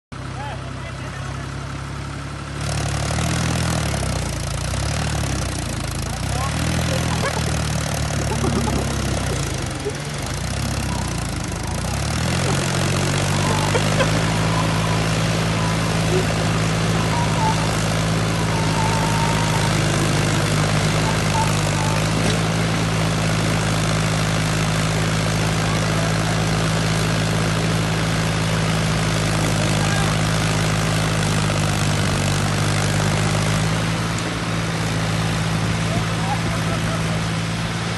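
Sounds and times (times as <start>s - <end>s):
vehicle engine running: 0.1s - 37.9s.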